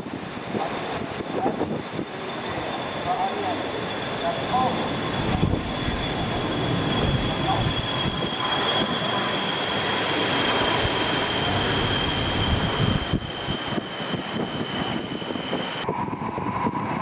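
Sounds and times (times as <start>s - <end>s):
wind buffeting microphone: 0.0s - 17.0s
high-pitched whine: 0.6s - 17.0s.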